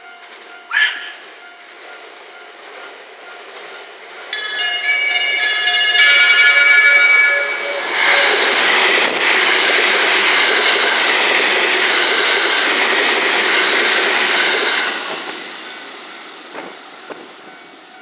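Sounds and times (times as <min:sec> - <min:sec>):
train wheel and rail noise: 0:00.0 - 0:18.0.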